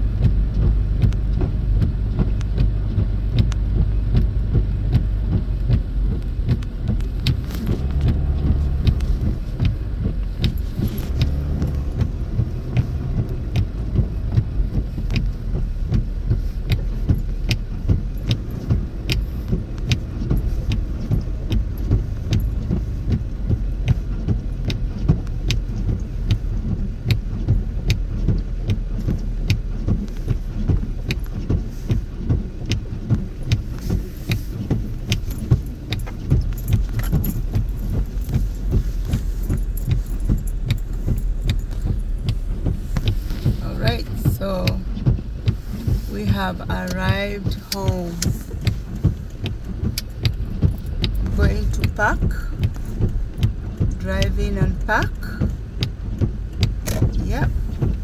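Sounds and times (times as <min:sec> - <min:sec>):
engine and tyre drone: 0:00.0 - 0:58.0.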